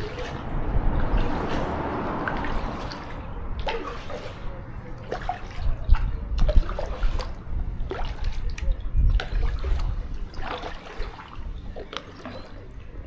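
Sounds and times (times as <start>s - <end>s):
kayak paddle strokes: 0.0s - 12.8s
water dripping off paddle: 0.0s - 12.8s
wind buffeting microphone: 0.0s - 13.0s.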